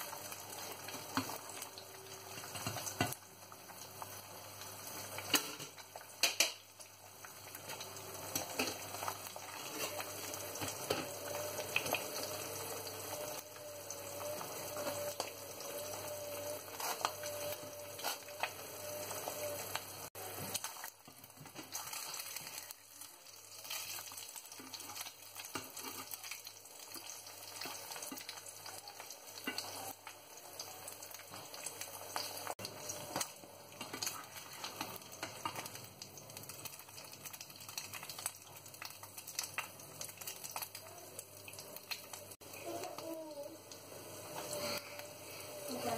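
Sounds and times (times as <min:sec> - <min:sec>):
egg sizzling in frying pan: 0:00.0 - 0:45.9
fat crackling and popping: 0:00.0 - 0:45.9.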